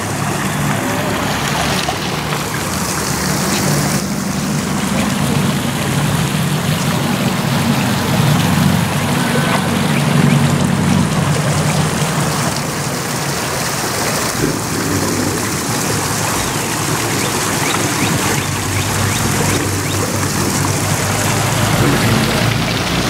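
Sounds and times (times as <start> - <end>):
people talking: 0.0 - 23.0
steady rushing noise: 0.0 - 23.0.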